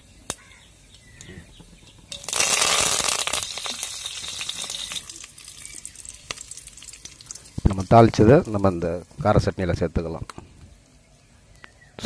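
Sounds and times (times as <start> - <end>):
seeds crackling in hot oil: 0.0 - 12.0
leaves sizzling and spluttering in oil: 2.0 - 12.0.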